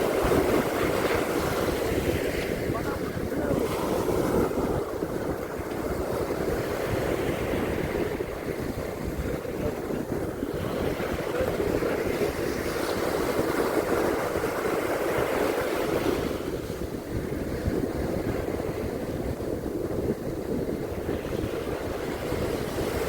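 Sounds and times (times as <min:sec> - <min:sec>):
sea waves washing onto beach: 0:00.0 - 0:23.0
wind buffeting microphone: 0:00.0 - 0:23.0.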